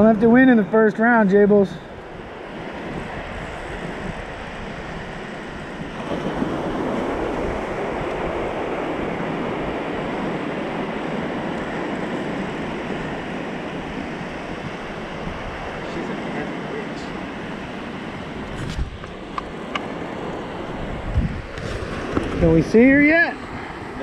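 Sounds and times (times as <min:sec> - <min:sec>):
ocean surf washing onto beach: 0:00.0 - 0:24.0
wind buffeting microphone: 0:00.0 - 0:24.0.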